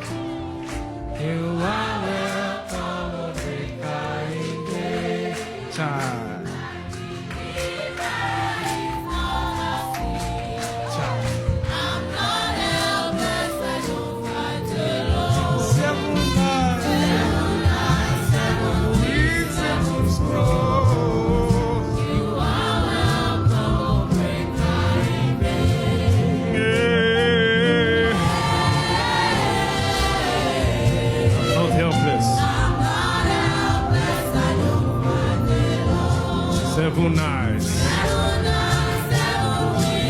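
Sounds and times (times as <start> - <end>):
choir singing over beat: 0.0 - 40.0.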